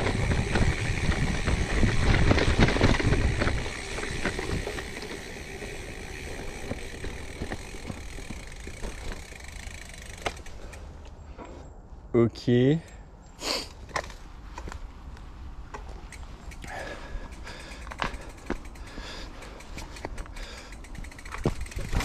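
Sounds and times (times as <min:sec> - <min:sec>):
bike tyres crunching on gravel: 0:00.0 - 0:11.6, 0:13.5 - 0:22.0
bike rattles and clicks: 0:00.0 - 0:11.8, 0:13.6 - 0:22.0.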